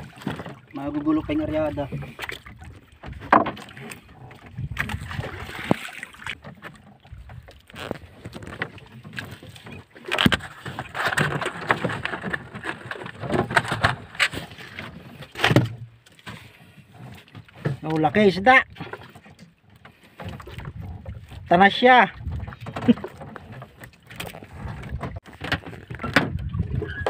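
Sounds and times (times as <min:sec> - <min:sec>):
sea water around hull: 0:00.0 - 0:27.0.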